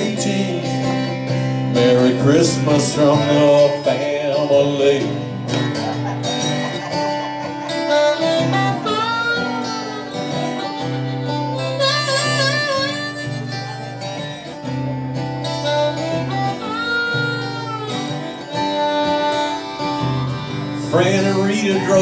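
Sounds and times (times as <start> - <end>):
harmonica solo: 0.0 - 22.0
strummed acoustic guitar: 0.0 - 22.0.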